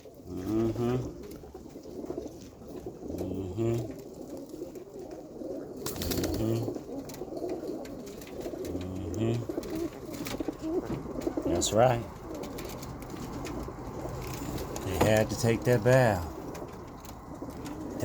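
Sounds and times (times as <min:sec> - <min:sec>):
pigeons cooing: 0:00.0 - 0:18.0
rustling: 0:00.1 - 0:18.0.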